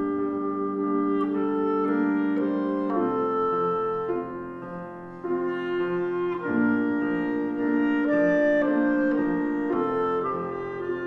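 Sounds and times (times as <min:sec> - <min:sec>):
clarinet melody: 0:00.0 - 0:11.0
piano accompaniment: 0:00.0 - 0:11.0.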